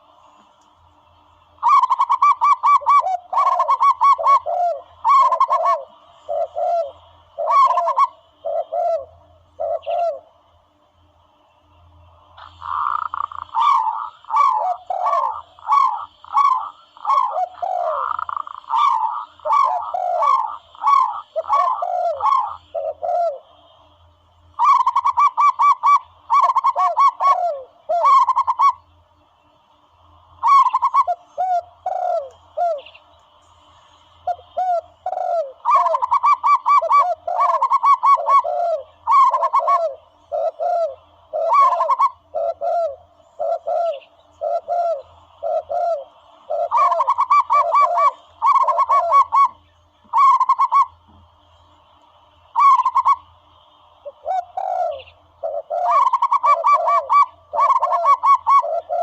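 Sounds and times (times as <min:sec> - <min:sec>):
recorded dove cooing: 0:01.5 - 0:10.4, 0:12.1 - 0:28.9, 0:30.2 - 0:51.7, 0:52.4 - 0:59.0.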